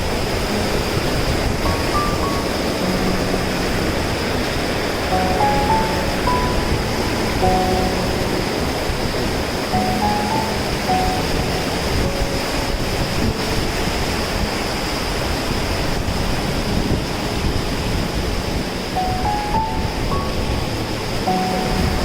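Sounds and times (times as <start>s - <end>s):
steady high-pitched tone: 0.0s - 14.5s, 18.8s - 22.0s
waterfall roaring: 0.0s - 22.0s.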